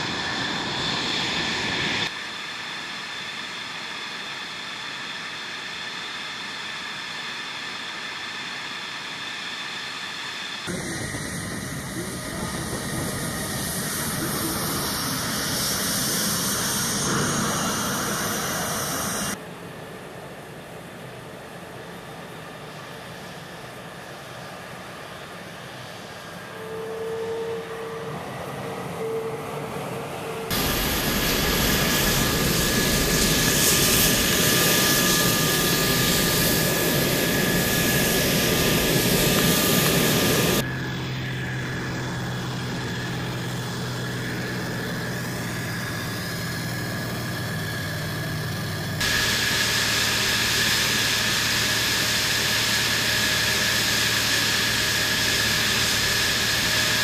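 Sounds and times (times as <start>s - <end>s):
jet engine roar with turbine whine: 0.0s - 57.0s.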